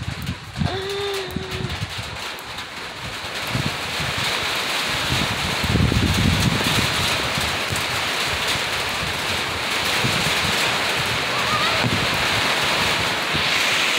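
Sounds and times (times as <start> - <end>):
steady rain falling: 0.0 - 13.9
wind rumble on microphone: 0.0 - 13.9.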